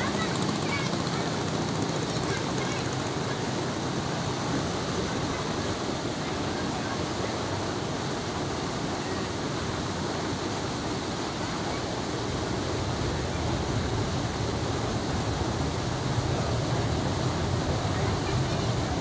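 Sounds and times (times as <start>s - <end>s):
airliner engines roaring: 0.0s - 19.0s.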